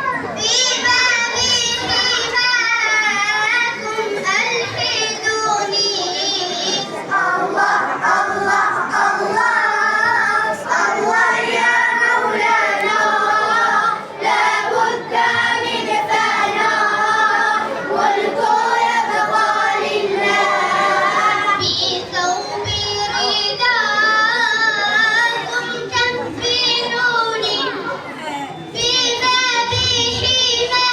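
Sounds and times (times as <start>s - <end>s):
children singing: 0.0s - 30.9s.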